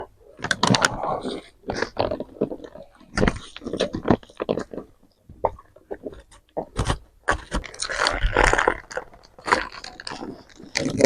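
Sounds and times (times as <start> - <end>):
crunching and chewing food: 0.0 - 11.0.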